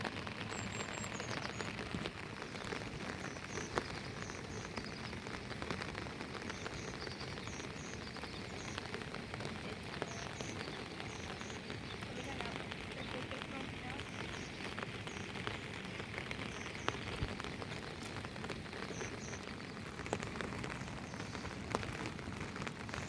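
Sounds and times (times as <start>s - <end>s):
raindrops ticking: 0.0s - 23.0s
steady rain falling: 0.0s - 23.0s.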